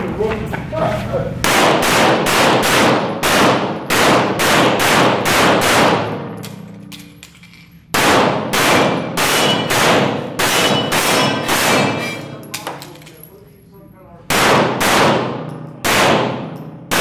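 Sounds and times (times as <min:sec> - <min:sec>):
pistol shots indoors: 0:01.4 - 0:13.1, 0:14.2 - 0:17.0.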